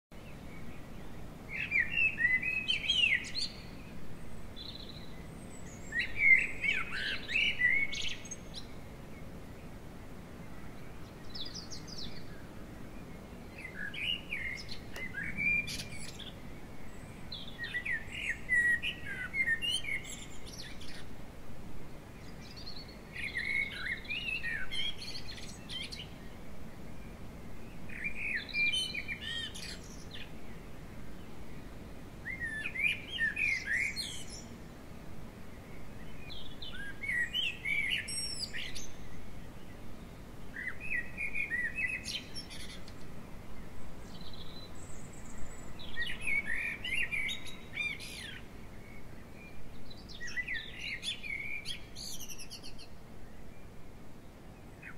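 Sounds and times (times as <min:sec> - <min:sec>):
faint outdoor background: 0:00.1 - 0:54.9
songbird singing: 0:00.1 - 0:54.9.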